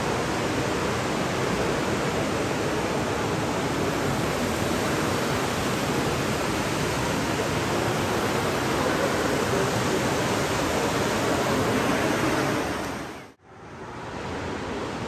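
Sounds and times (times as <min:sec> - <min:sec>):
fountain running water: 0:00.0 - 0:13.4.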